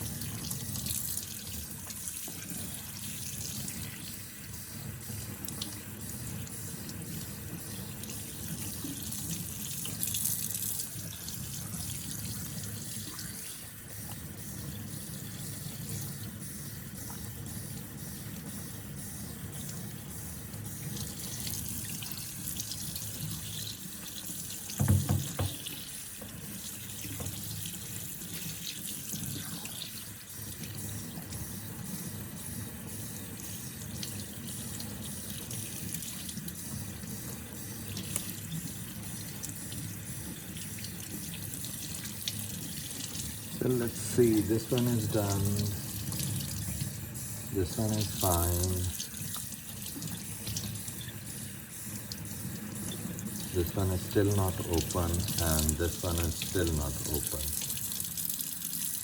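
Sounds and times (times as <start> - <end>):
tap water running into sink: 0.0 - 59.0.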